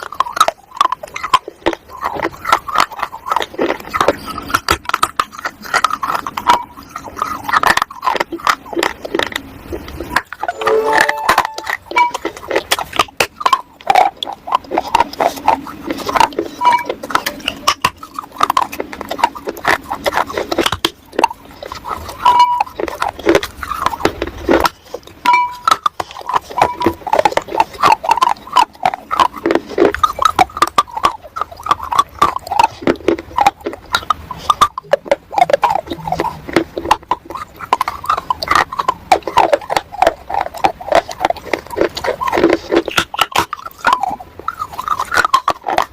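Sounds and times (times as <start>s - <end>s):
chewing crunches: 0.0s - 45.9s.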